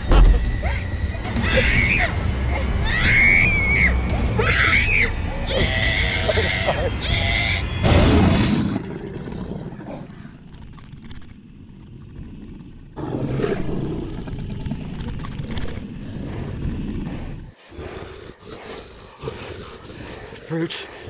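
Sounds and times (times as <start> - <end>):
creature roaring and growling: 0.0 - 10.4, 12.3 - 21.0
tense horror film score: 0.0 - 21.0.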